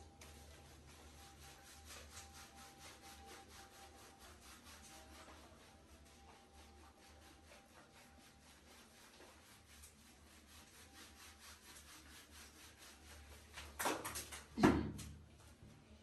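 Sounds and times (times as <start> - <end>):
hands rubbing wet fur: 0.0 - 14.5.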